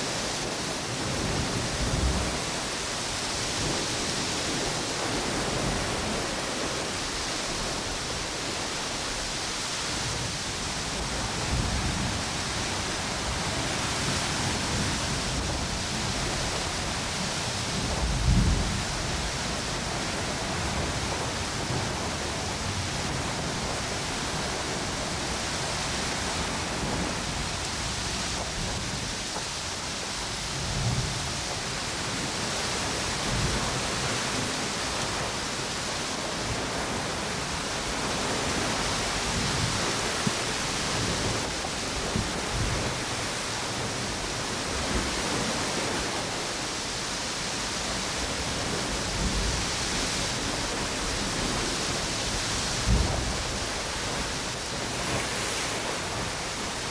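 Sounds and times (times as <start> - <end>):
ocean waves on a beach: 0.0 - 56.9
strong wind through palm trees: 0.0 - 56.9.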